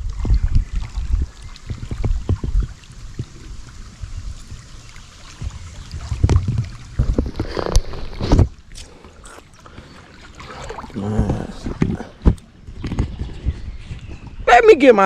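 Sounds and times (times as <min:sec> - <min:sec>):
wind rumbling on microphone: 0:00.0 - 0:08.8, 0:10.6 - 0:15.0.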